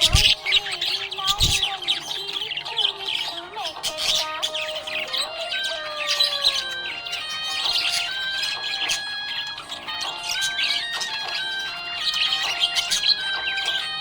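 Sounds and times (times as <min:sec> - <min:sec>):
background music: 0:00.0 - 0:14.0
budgerigars chirping: 0:00.0 - 0:14.0.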